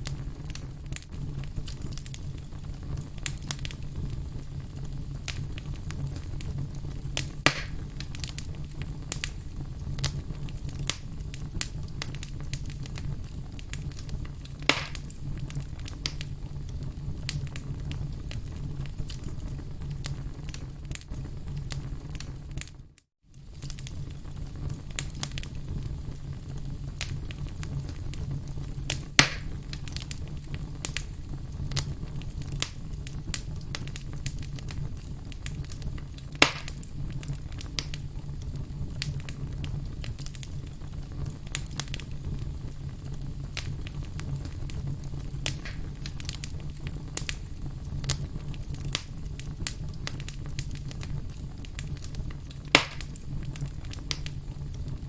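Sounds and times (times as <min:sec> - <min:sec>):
firewood burning and crackling: 0:00.0 - 0:55.0
loud fire pops: 0:00.0 - 0:55.0.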